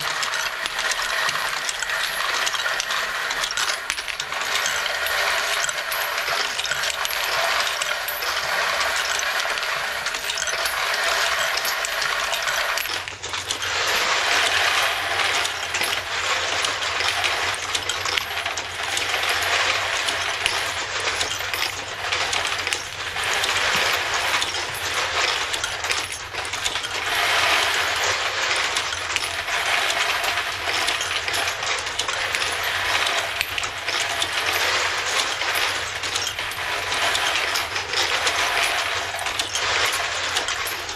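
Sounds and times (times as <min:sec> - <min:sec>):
metal cartridge cases clattering: 0:00.0 - 0:40.9.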